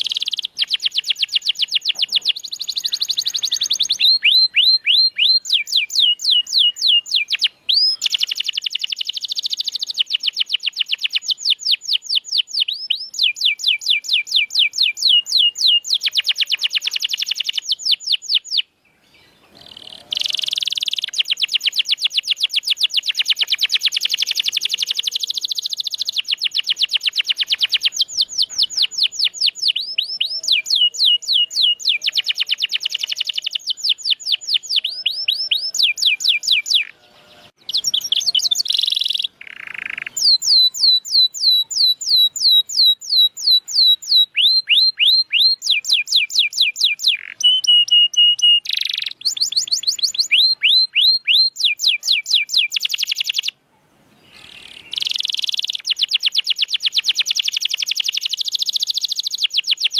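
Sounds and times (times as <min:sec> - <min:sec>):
canary trilling: 0:00.0 - 0:18.6, 0:19.5 - 0:53.6, 0:54.4 - 0:59.9.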